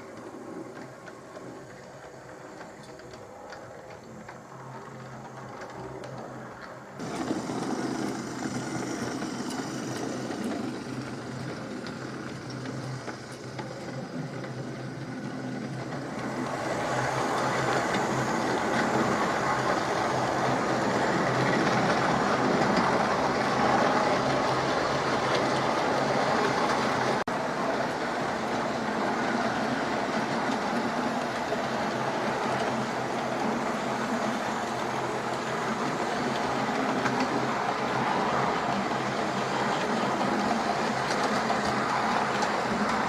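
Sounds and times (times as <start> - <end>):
model train motor hum: 0.0 - 43.0
wheels rumbling on rails: 0.0 - 43.0.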